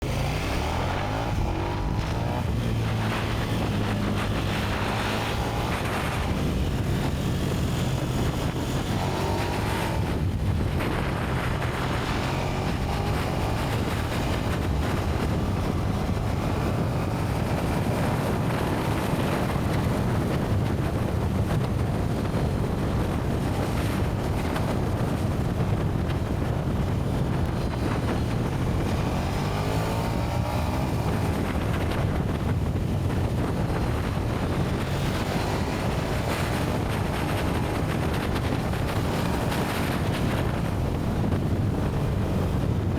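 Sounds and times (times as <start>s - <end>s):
motorcycle engine revving: 0.0s - 42.9s
wind on microphone: 0.0s - 42.9s.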